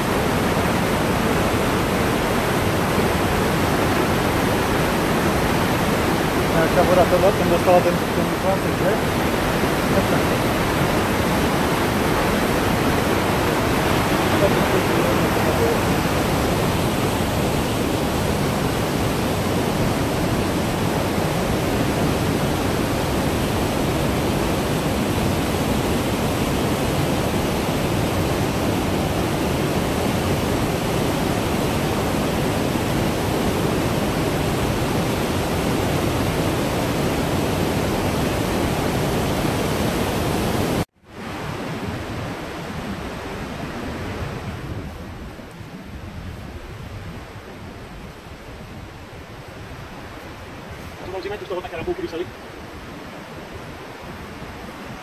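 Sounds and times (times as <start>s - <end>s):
river water rushing through canyon: 0.0s - 55.0s.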